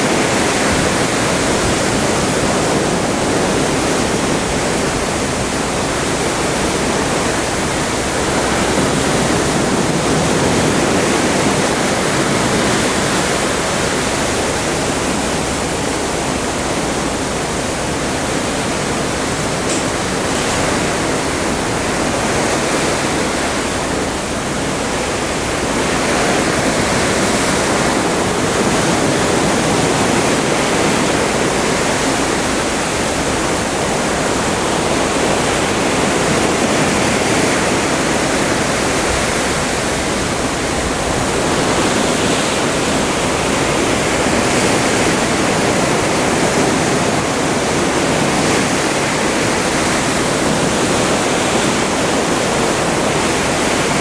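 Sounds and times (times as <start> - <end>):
water rushing along ship hull: 0.0 - 54.0.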